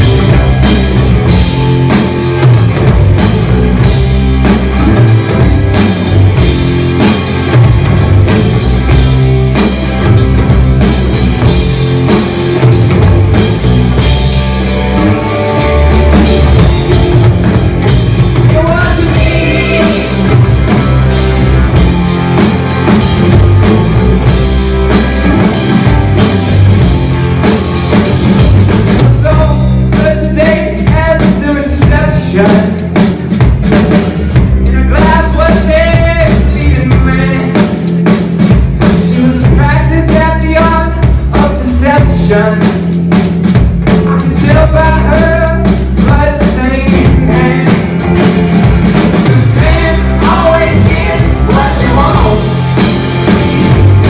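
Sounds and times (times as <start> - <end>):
live rock band playing: 0.0 - 54.0
melody line over band: 0.0 - 54.0.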